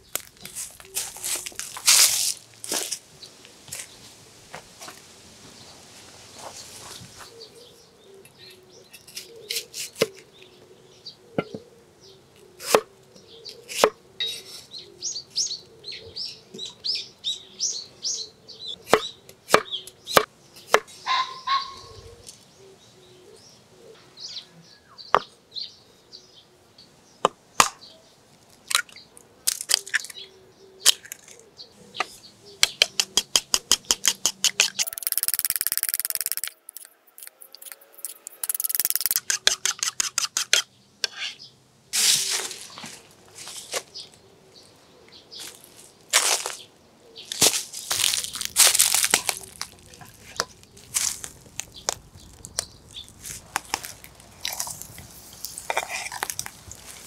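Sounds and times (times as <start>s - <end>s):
birds chirping: 5.4s - 57.0s.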